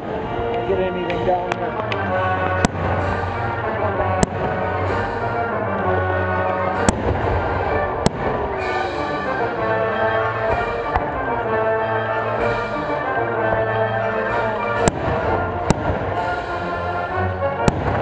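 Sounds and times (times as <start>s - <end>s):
music playing: 0.0s - 18.0s.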